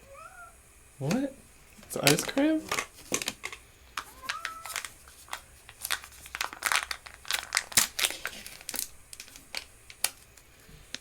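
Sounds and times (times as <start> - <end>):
plastic packaging crinkling: 1.9 - 11.0.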